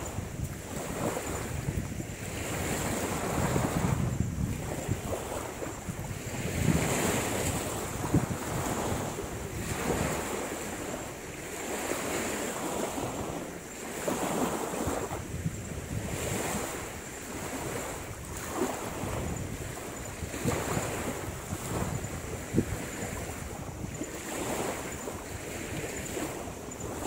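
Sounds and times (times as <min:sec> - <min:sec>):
small waves washing onto shore: 0:00.0 - 0:27.0
wind buffeting microphone: 0:00.0 - 0:27.0.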